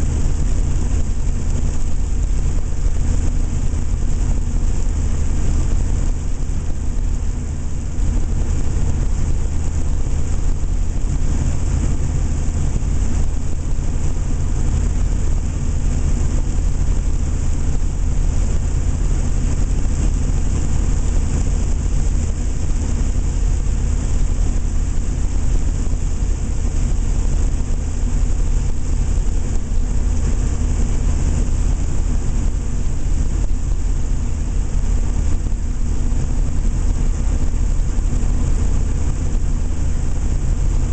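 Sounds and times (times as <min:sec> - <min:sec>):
diesel engine drone: 0:00.0 - 0:40.9.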